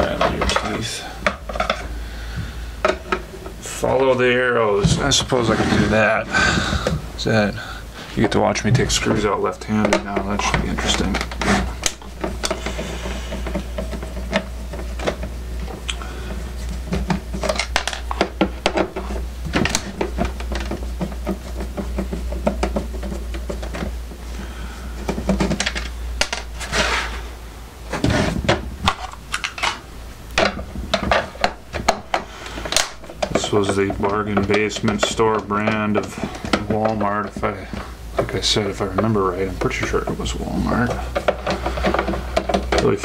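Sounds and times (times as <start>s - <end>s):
low hum: 0.0s - 43.0s.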